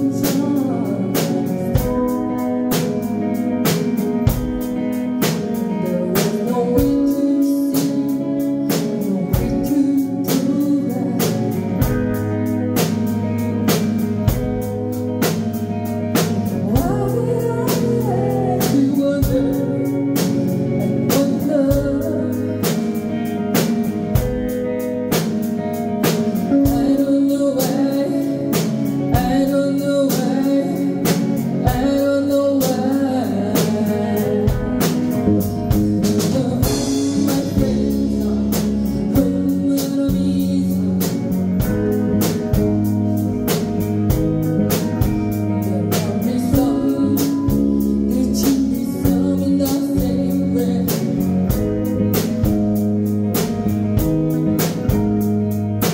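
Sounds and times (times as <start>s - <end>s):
woman singing lead: 0.0s - 55.2s
bass guitar: 0.0s - 55.9s
drum kit steady beat: 0.0s - 55.9s
electric guitars: 0.0s - 55.9s.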